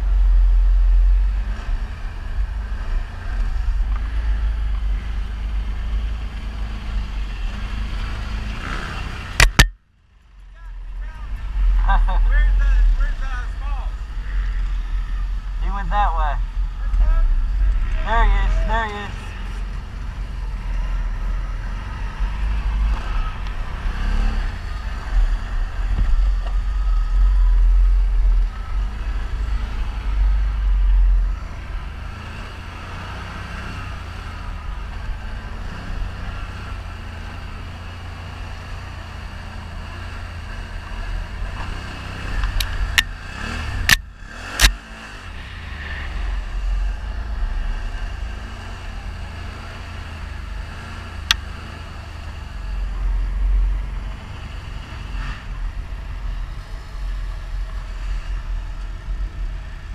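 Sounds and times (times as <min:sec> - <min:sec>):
atv engines running: 0:00.0 - 0:59.9.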